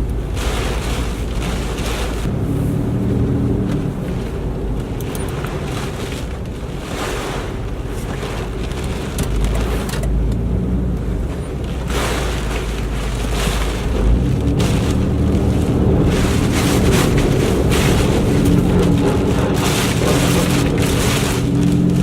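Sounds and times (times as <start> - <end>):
strong wind gusts buffeting microphone: 0.0 - 22.0.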